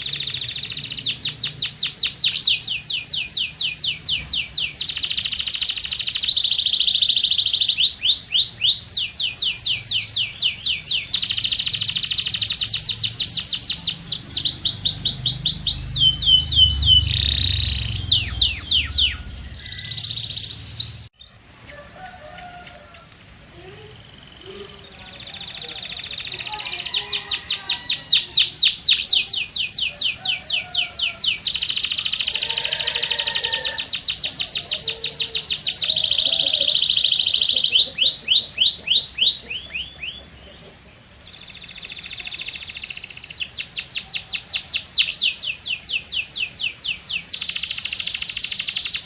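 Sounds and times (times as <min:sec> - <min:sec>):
canary singing trills: 0:00.0 - 0:49.0.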